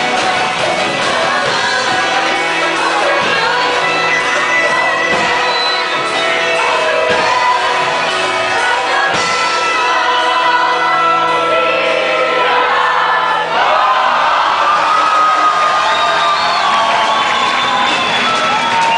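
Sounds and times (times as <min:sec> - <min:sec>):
voices singing worship song: 0:00.0 - 0:18.2.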